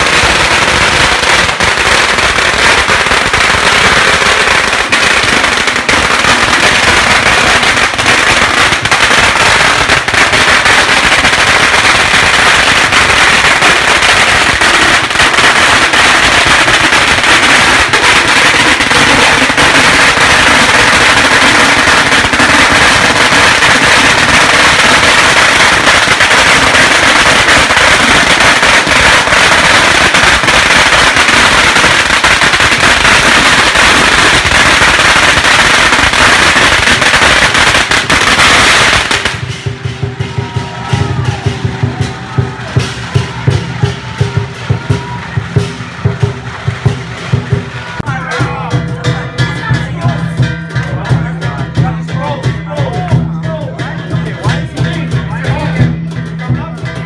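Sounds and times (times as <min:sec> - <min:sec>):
firecrackers exploding rapidly: 0:00.0 - 0:57.0.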